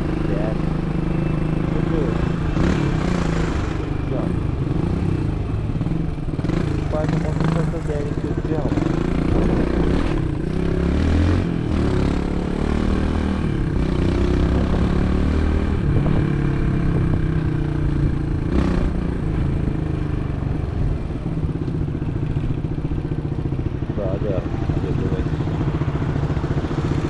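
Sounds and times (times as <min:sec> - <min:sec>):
motorbike engine running: 0:00.0 - 0:27.0
wind and road noise: 0:00.0 - 0:27.0.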